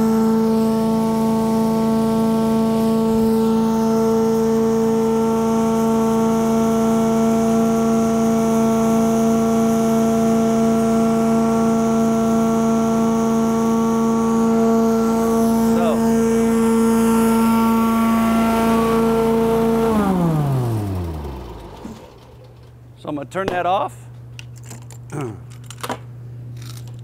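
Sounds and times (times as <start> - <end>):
vacuum system humming: 0.0 - 27.0.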